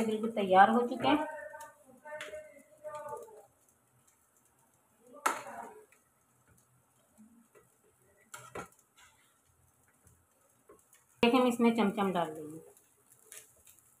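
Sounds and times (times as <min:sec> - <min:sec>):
rice stirring: 0:00.8 - 0:11.4, 0:12.6 - 0:14.0.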